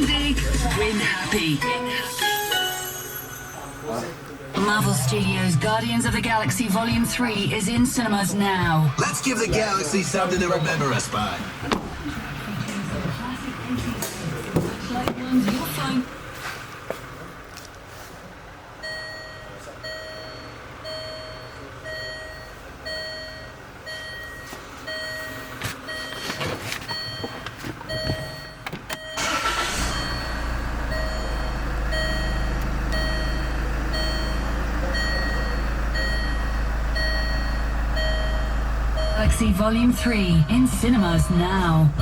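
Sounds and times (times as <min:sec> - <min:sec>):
dashboard warning chime beeping: 0:00.0 - 0:11.3, 0:18.8 - 0:42.0
car engine starting and idling: 0:00.0 - 0:42.0.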